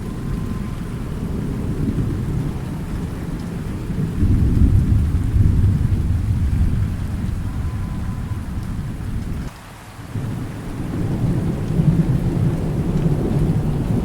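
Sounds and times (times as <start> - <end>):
thunder rumbling: 0.0 - 9.5, 10.1 - 14.0
rain: 0.0 - 14.0.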